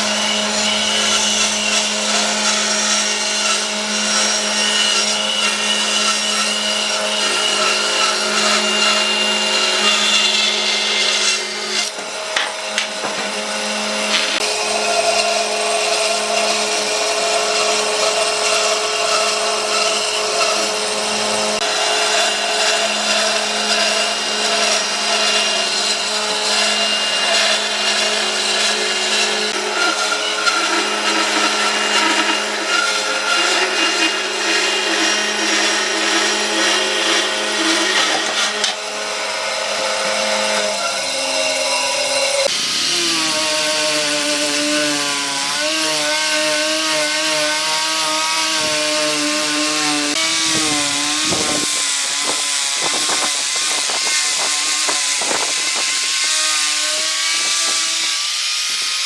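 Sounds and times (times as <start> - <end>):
power tool grinding wood: 0.0 - 59.0.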